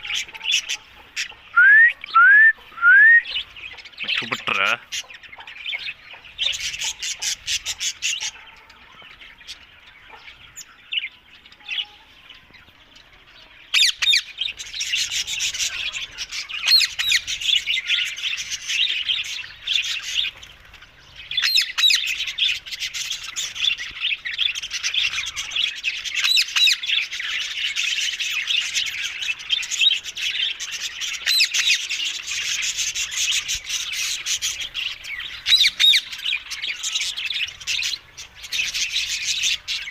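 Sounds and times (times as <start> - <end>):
parakeets squawking: 0.0 - 12.6, 13.6 - 39.9.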